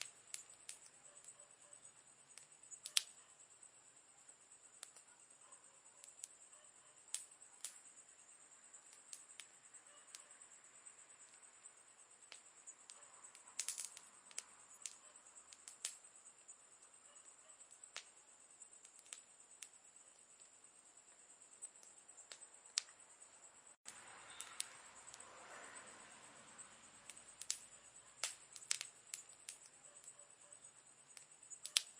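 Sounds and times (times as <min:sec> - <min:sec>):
campfire crackling: 0:00.0 - 0:31.9.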